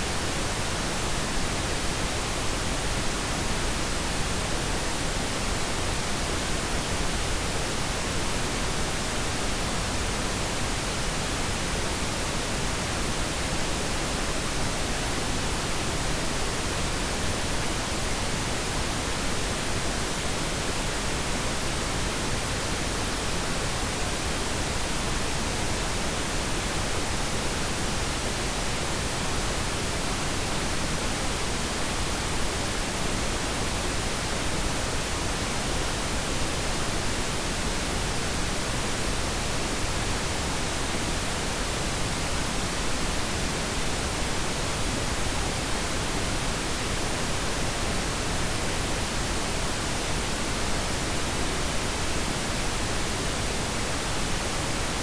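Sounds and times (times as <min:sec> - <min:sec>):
steady pink noise: 0:00.0 - 0:55.0.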